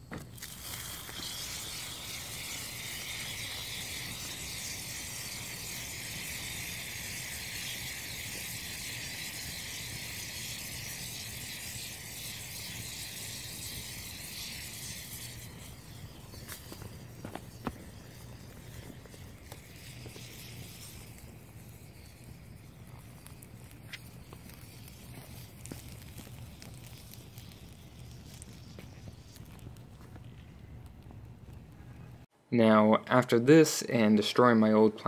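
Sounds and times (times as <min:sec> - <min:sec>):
burning reaction hissing and rumbling: 0:00.0 - 0:35.0.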